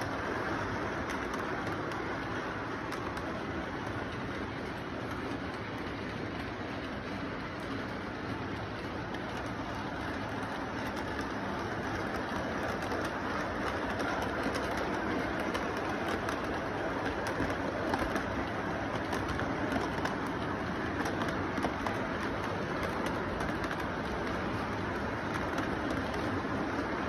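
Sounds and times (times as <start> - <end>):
model train rumbling: 0.0 - 27.0
wheels clicking over rail joints: 0.0 - 27.0.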